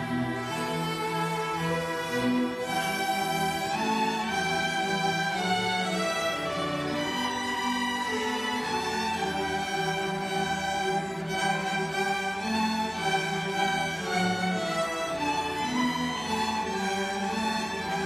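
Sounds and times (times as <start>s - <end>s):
string orchestra playing: 0.0s - 18.0s.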